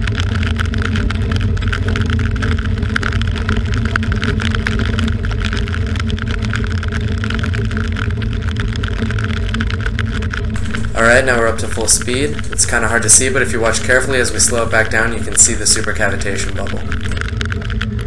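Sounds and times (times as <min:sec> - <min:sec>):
motor hum: 0:00.0 - 0:18.0
water rushing and churning: 0:00.0 - 0:18.0.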